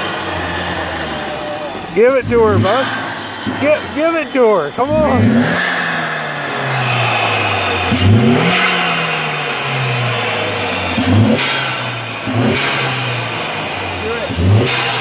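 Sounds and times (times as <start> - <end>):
car engine revving: 0.0 - 15.0
turbocharger whistle: 0.0 - 15.0.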